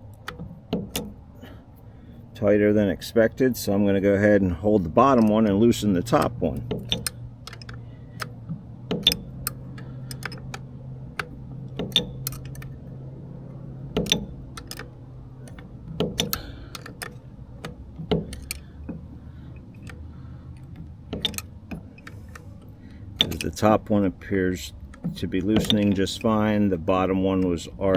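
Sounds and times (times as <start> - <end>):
low steady hum: 0.0 - 27.9
wrenches clicking on metal nuts: 4.8 - 27.9.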